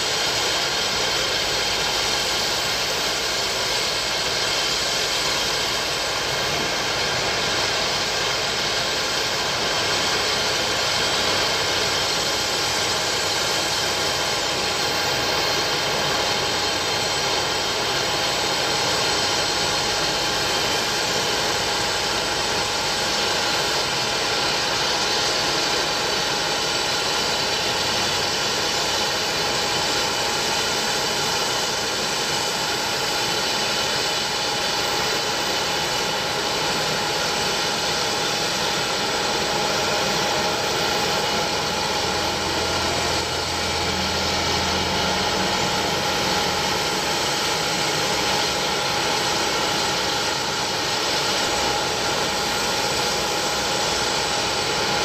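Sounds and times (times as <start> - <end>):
jet airliners idling: 0.0 - 55.0.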